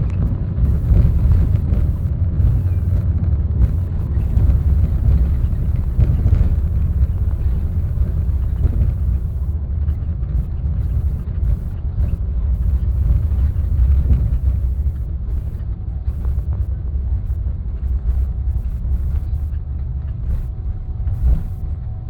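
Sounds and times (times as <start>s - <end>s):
aircraft cabin rumble: 0.0s - 22.0s.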